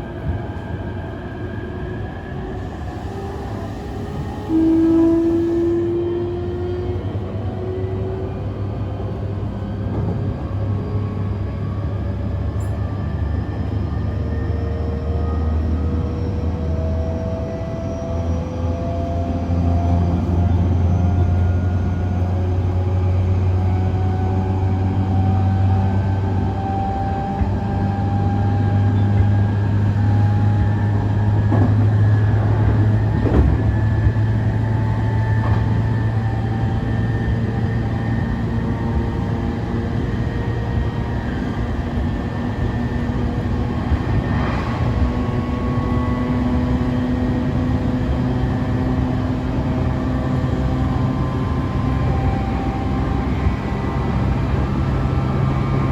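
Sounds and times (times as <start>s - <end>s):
wheels rumbling on rail: 0.0s - 55.9s.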